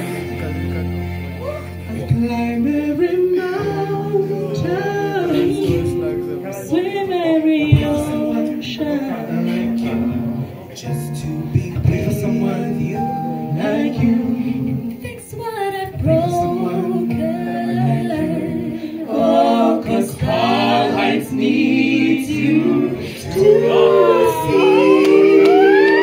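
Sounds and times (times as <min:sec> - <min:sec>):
vocal group singing a cappella: 0:01.6 - 0:26.0.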